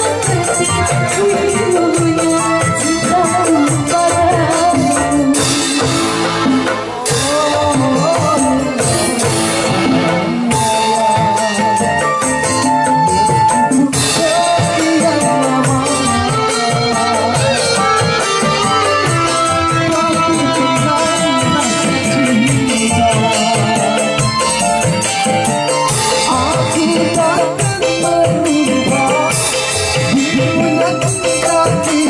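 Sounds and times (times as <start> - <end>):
electronic keyboard: 0.0 - 32.0
hand drums: 0.0 - 32.0
person singing: 0.0 - 32.0
rattling percussion: 0.0 - 32.0.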